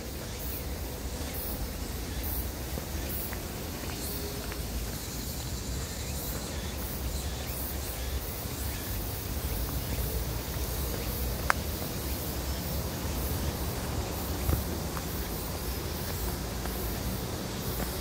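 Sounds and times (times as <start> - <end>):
footsteps on forest trail: 0.0 - 18.0
insects calling: 0.0 - 18.0.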